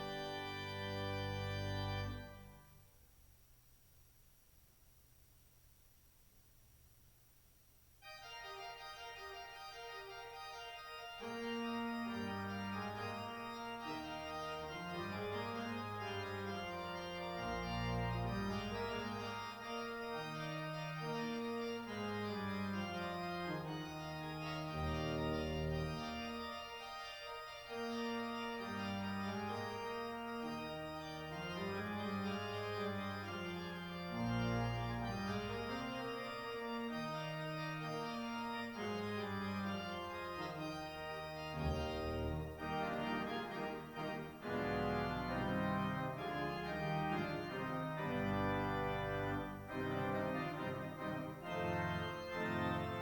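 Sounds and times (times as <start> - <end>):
organ playing held chords: 0.0 - 2.9, 8.0 - 53.0.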